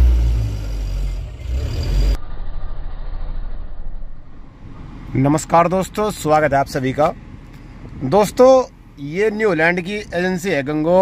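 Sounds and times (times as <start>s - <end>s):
truck engine deep rumble: 0.0s - 11.0s
quieter muffled rumbling: 1.1s - 11.0s.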